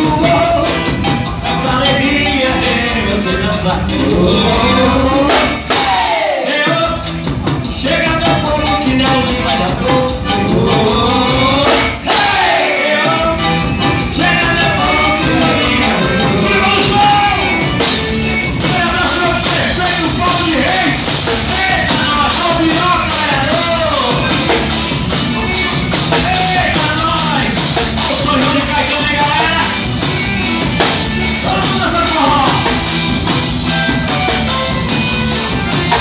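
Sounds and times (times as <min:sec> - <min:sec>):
live band music: 0:00.0 - 0:36.0.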